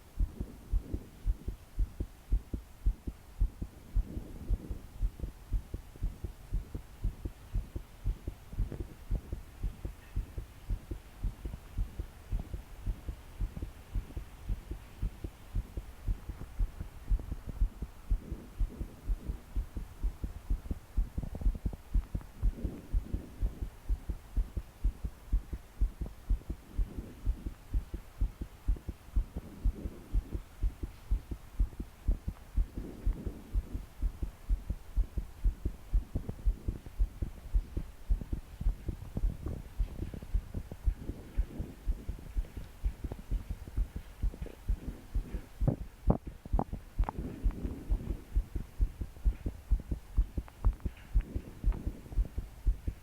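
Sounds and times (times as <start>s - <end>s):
pounding heartbeat: 0.0s - 53.0s.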